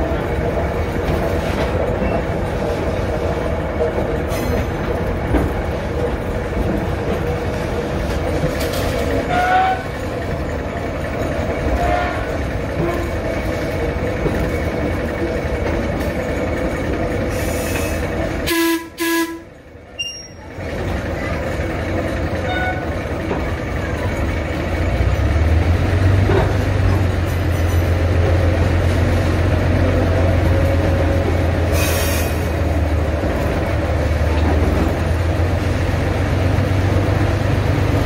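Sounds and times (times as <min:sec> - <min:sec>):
train rumbling along track: 0:00.0 - 0:38.0.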